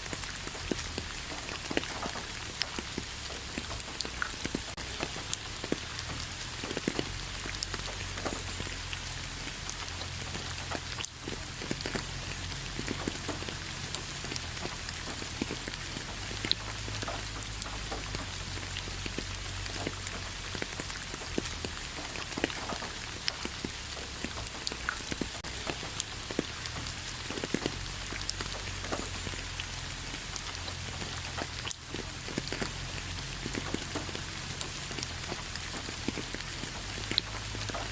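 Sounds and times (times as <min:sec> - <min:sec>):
rain falling: 0:00.0 - 0:37.9
raindrops striking a surface: 0:00.0 - 0:37.9.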